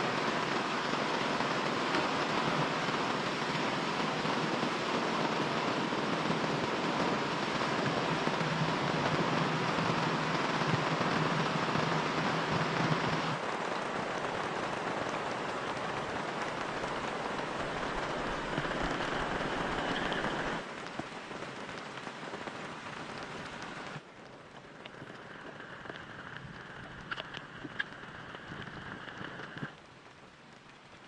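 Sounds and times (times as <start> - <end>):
rain hissing: 0.0 - 31.0
raindrops tapping: 0.1 - 31.0.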